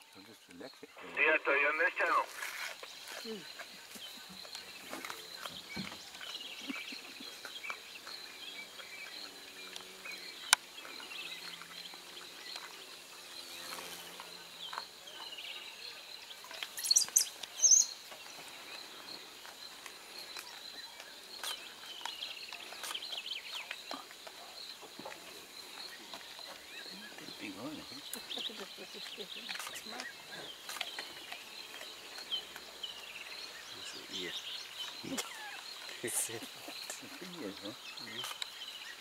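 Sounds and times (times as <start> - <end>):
bird calls: 0.0 - 39.0
insect drone: 2.0 - 39.0.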